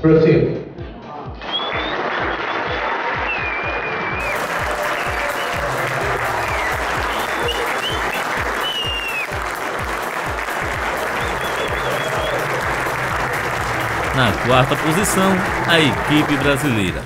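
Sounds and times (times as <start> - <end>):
audience applauding: 1.4 - 17.0
music with bass beat: 3.3 - 17.0.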